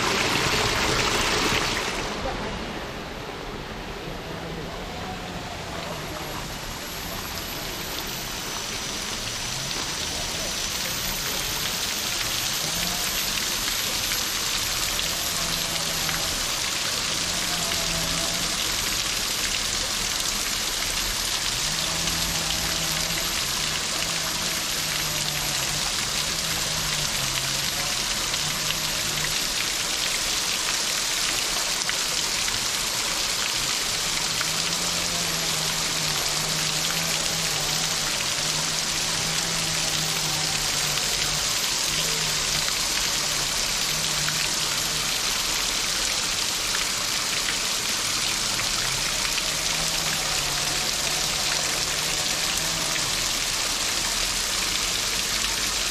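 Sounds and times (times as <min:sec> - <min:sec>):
falling water hissing: 0:00.0 - 0:02.3, 0:05.4 - 0:55.9.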